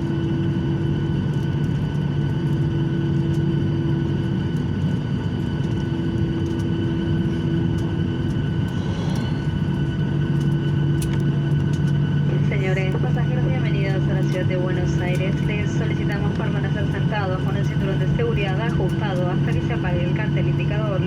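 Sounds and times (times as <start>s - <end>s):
jet engines heard from cabin: 0.0s - 21.0s.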